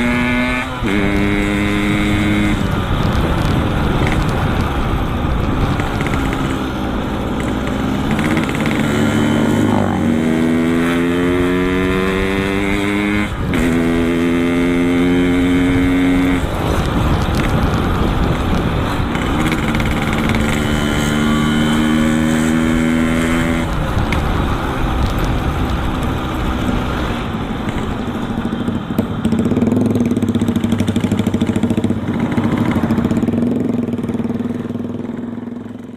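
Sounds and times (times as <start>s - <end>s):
two-stroke motorcycle engine: 0.0s - 35.9s.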